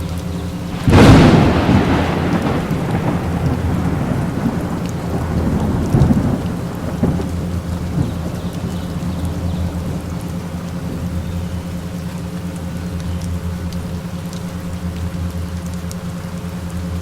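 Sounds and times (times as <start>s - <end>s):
thunder rumbling: 0.0s - 15.5s
falling rain: 0.0s - 17.0s.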